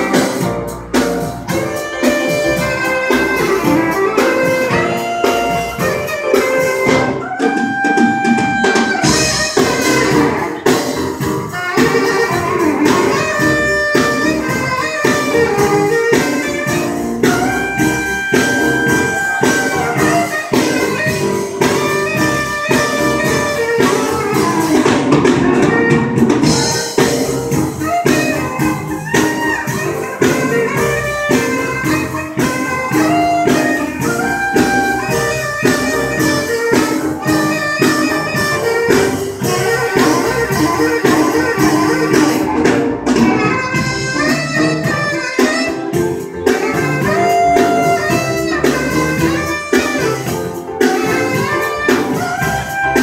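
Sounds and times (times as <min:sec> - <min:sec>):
drum kit beat: 0:00.0 - 0:53.0
guitar: 0:00.0 - 0:53.0
keyboard: 0:00.0 - 0:53.0
saxophone lead: 0:00.0 - 0:53.0.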